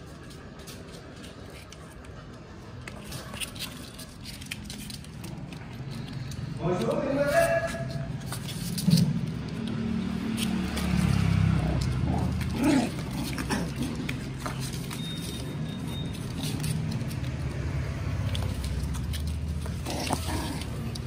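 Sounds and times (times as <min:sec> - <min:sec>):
puppies scratching on cardboard: 0:00.0 - 0:21.0.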